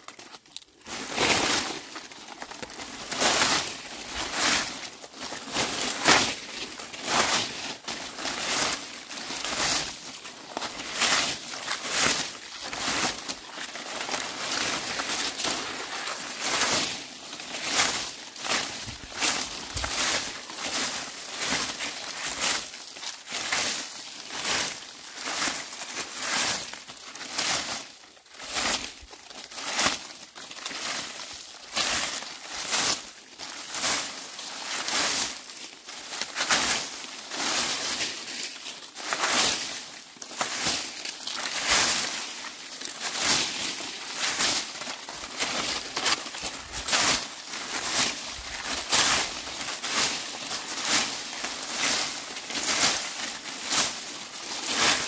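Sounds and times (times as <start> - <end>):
dry leaves being swept: 0.8 - 55.0.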